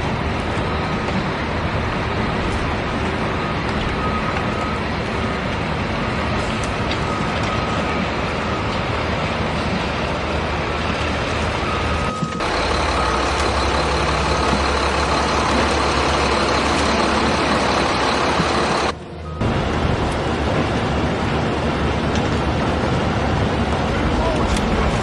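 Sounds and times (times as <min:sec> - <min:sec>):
heavy vehicle engine running: 0:00.0 - 0:25.0.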